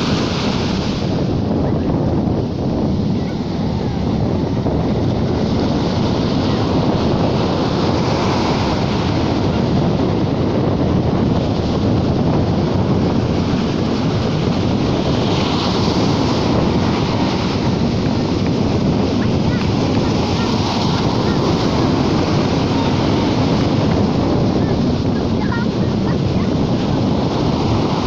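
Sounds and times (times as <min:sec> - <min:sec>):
sea waves washing in: 0:00.0 - 0:28.0
wind buffeting microphone: 0:00.0 - 0:28.0.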